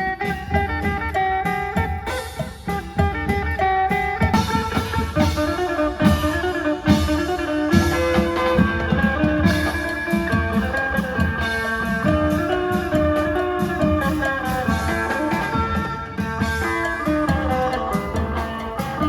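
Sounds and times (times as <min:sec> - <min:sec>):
long drums beating: 0:00.0 - 0:19.0
plucked lute melody: 0:00.0 - 0:19.0.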